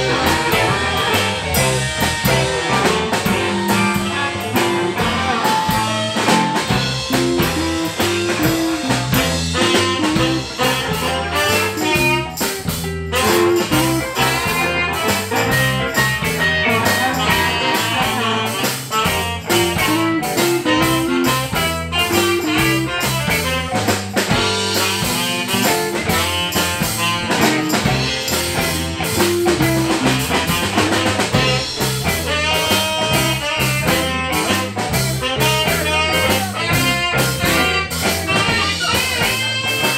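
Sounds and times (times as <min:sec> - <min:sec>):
bass guitar: 0:00.0 - 0:39.9
blues harmonica: 0:00.0 - 0:39.9
drum kit beat: 0:00.0 - 0:39.9
electric guitars: 0:00.0 - 0:39.9.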